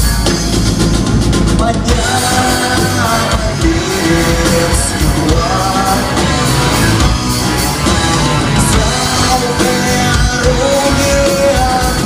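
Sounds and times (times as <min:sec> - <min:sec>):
distorted guitar: 0:00.0 - 0:12.0
drums: 0:00.0 - 0:12.0
singer holding long notes: 0:01.6 - 0:12.0.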